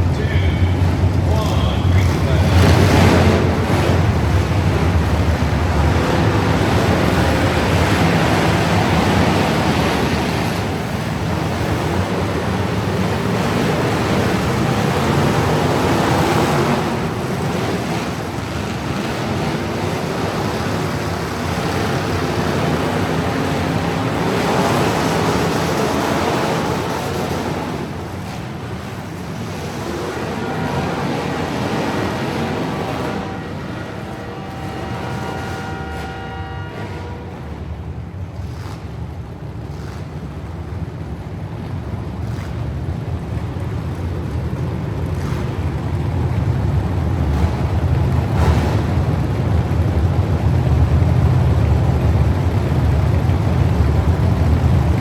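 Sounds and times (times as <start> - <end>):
truck engines rumbling: 0.0 - 55.0.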